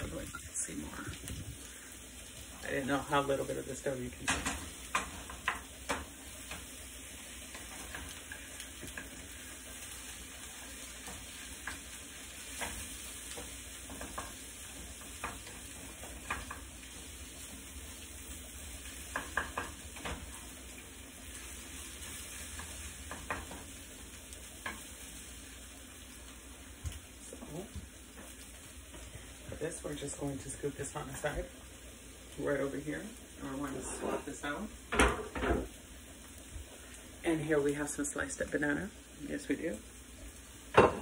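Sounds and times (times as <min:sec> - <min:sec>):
eggs sizzling in a frying pan: 0:00.0 - 0:41.0.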